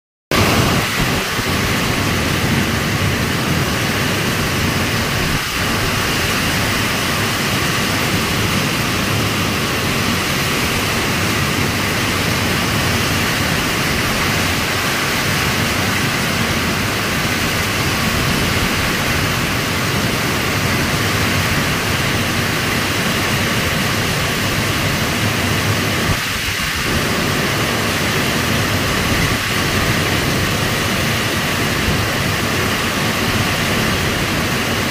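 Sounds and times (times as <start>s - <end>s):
heavy rain pouring: 0.3s - 34.9s.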